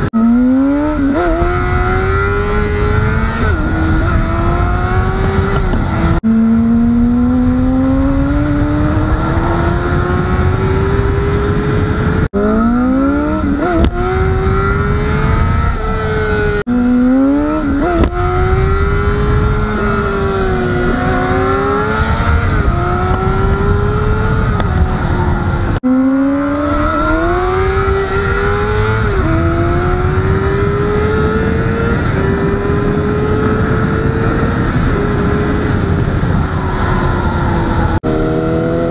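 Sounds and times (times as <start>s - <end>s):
motorcycle engine revving through gears: 0.0s - 38.9s
wind and road noise: 0.0s - 38.9s.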